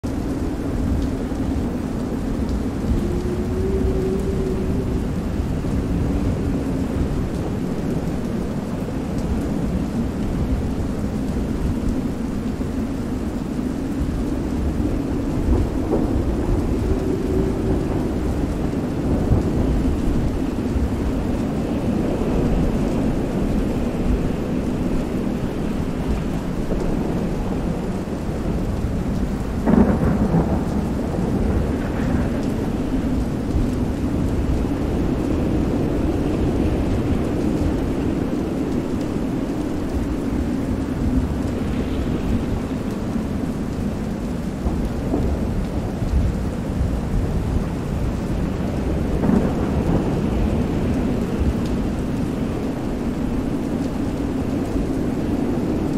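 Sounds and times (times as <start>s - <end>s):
steady rain: 0.0s - 55.9s
wind: 0.0s - 55.9s
low thunder rumble: 0.1s - 55.9s.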